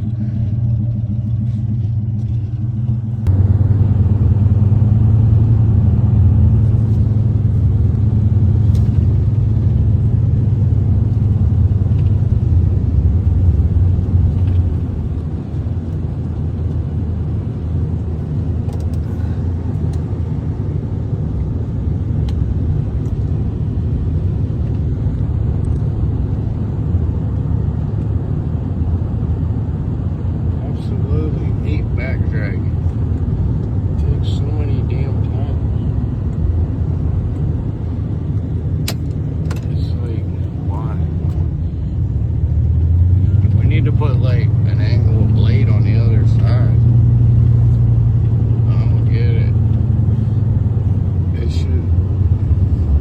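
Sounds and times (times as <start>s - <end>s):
pickup truck engine rumbling: 0.0s - 53.0s.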